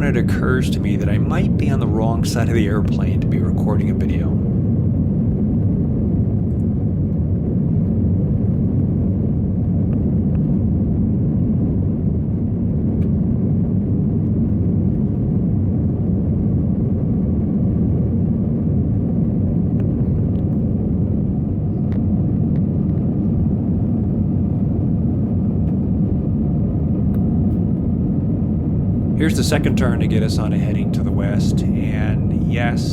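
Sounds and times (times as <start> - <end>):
airplane engines rumbling in cabin: 0.0 - 32.9.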